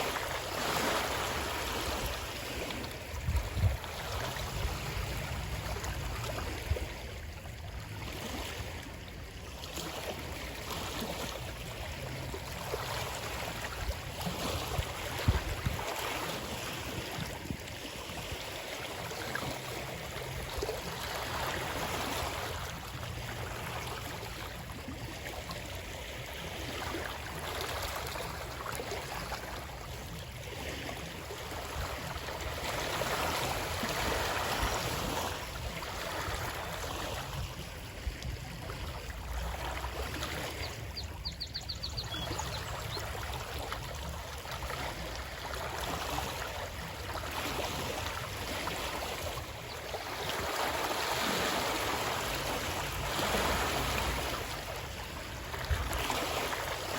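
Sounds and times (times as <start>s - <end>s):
stream of water flowing: 0.0s - 56.9s.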